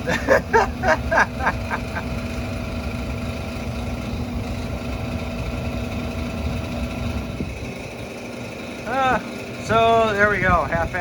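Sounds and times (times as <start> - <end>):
heater blower fan hum: 0.0 - 11.0.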